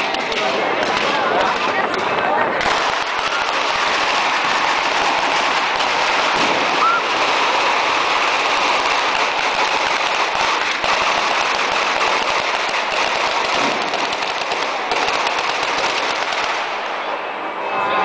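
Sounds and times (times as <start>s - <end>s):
firecrackers crackling rapidly: 0.0s - 17.4s.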